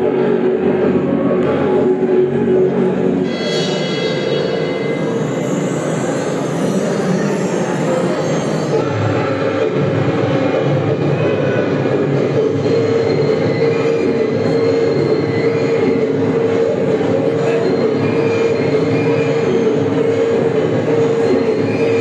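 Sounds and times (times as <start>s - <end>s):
train sound over loudspeakers: 0.0s - 22.0s.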